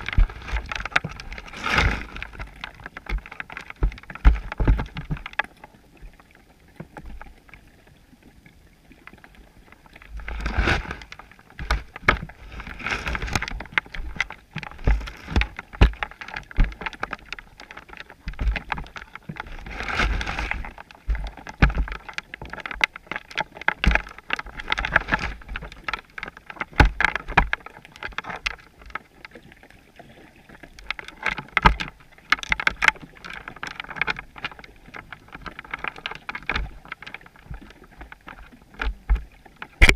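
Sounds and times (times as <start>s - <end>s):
muffled underwater clicks and knocks: 0.0s - 39.9s
rushing water: 0.0s - 39.9s.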